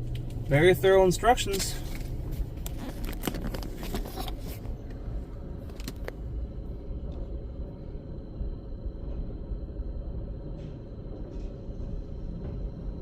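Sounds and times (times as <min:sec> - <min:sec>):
car cabin idling rumble: 0:00.0 - 0:13.0.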